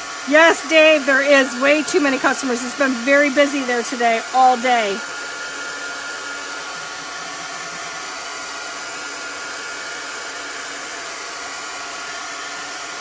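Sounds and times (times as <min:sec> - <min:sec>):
handheld dryer blowing: 0:00.0 - 0:13.0.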